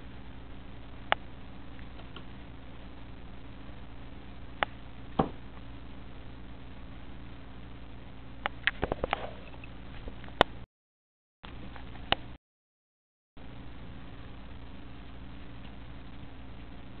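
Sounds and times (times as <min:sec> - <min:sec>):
steady low hum: 0:00.0 - 0:10.7, 0:13.4 - 0:17.0.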